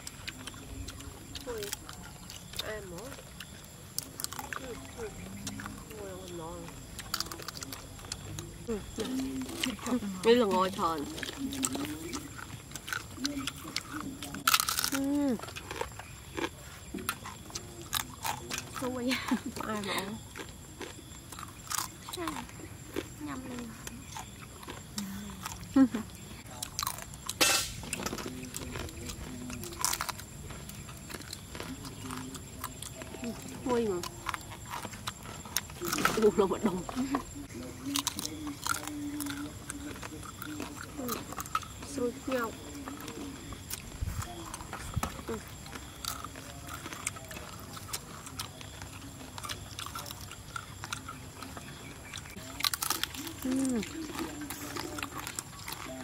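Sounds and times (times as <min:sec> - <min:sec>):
crunchy snack chewing: 0:00.0 - 0:56.0.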